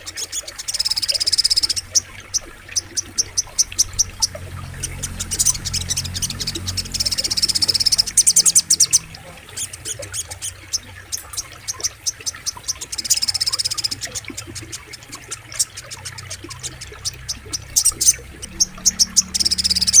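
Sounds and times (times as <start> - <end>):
flowing river water: 0.0 - 20.0
songbird trilling chatter: 0.0 - 20.0.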